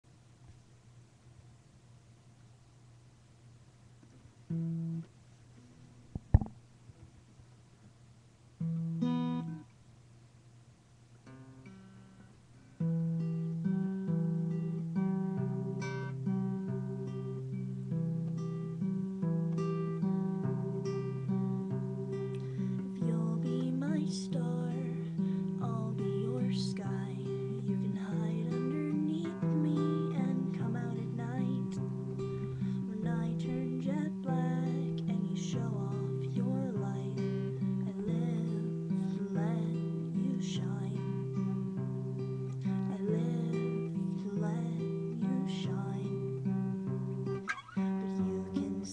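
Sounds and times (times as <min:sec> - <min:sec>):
acoustic guitar chords: 0:04.5 - 0:06.6, 0:08.6 - 0:09.7, 0:11.2 - 0:48.9.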